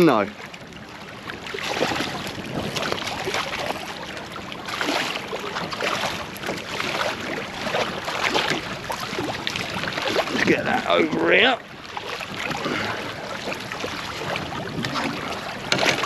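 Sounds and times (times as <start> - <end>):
water lapping against boat: 0.0 - 16.0
wind buffeting microphone: 0.7 - 4.7, 5.5 - 16.0.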